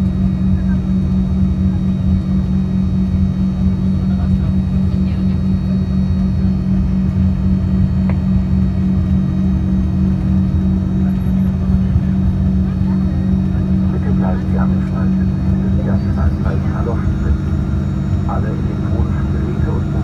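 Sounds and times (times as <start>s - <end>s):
jet engines idling: 0.0s - 20.0s.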